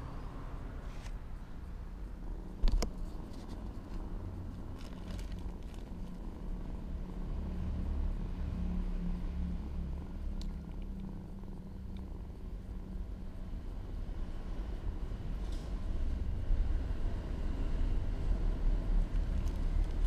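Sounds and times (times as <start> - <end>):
kitten purring: 1.6 - 20.0.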